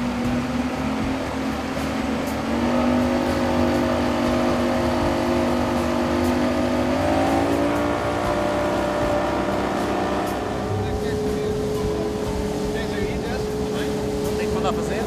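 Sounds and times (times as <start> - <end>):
motorboat engine: 0.0 - 15.0
water rushing: 0.0 - 15.0.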